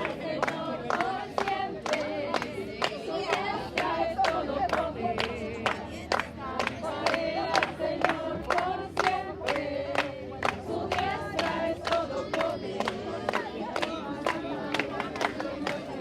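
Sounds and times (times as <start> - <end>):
group of people singing: 0.0 - 16.0
rhythmic hand clapping: 0.0 - 16.0.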